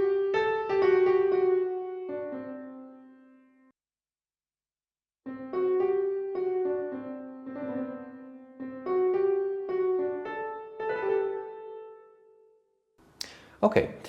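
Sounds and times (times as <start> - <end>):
piano melody: 0.0 - 3.8, 5.2 - 12.8.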